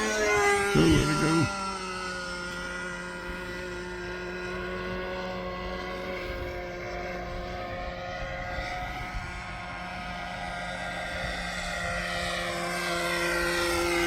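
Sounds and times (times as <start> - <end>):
model plane motor droning: 0.0 - 14.0.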